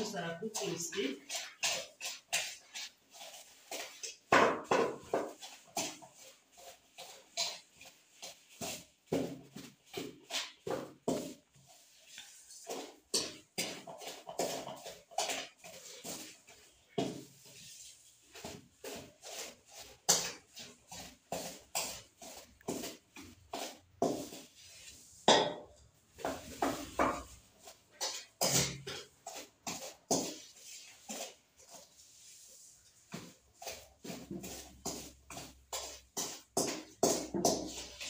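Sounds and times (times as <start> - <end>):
wooden stick scraping metal bowl: 0.0 - 25.0, 26.2 - 32.0, 33.1 - 38.0.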